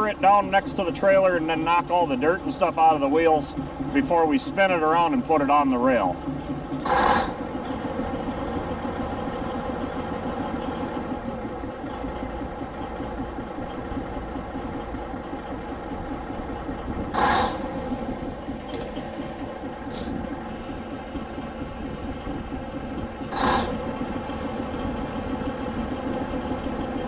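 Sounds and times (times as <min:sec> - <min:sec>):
crane engine running: 0:00.0 - 0:27.0.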